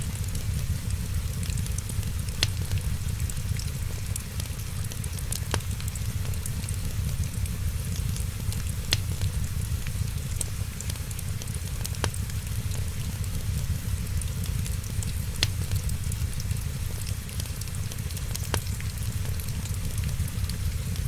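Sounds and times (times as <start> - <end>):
fireplace crackling: 0.1 - 21.0.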